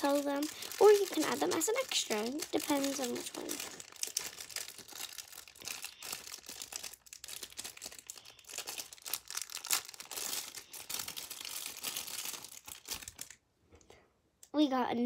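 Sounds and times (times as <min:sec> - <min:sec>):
plastic wrapper crinkling: 0:00.0 - 0:13.4.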